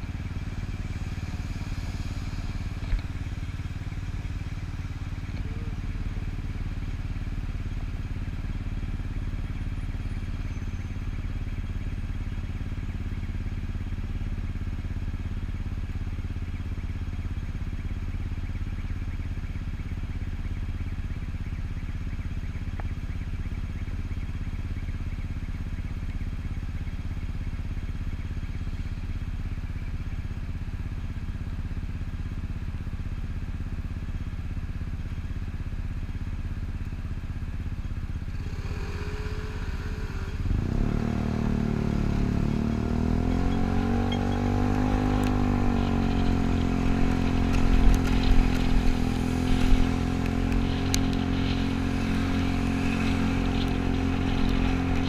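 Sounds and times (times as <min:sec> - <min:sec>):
scooter engine idling: 0:00.0 - 0:40.9, 0:44.7 - 0:55.0.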